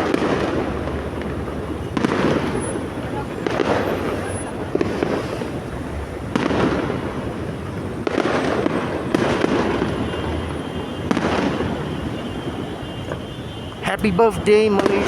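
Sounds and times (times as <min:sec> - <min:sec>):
fireworks bursting: 0:00.0 - 0:15.0
fireworks crackling: 0:00.0 - 0:15.0.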